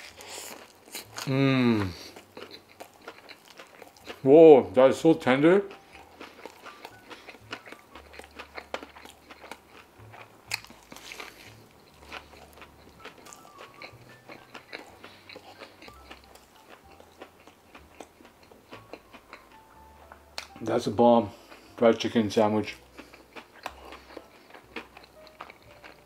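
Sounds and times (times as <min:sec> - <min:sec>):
biting and chewing: 0:00.0 - 0:04.3, 0:05.2 - 0:20.7, 0:21.4 - 0:26.0.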